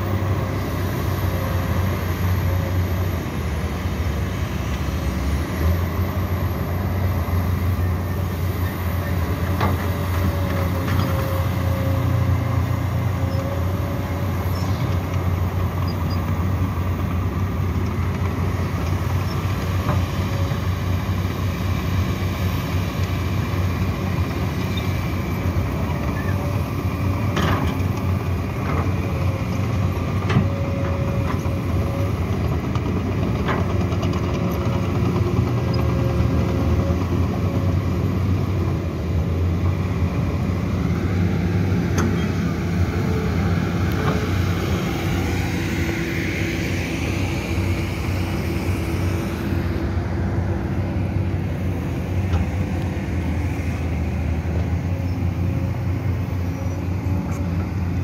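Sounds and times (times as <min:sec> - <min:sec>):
diesel engine rumble: 0:00.0 - 0:58.0.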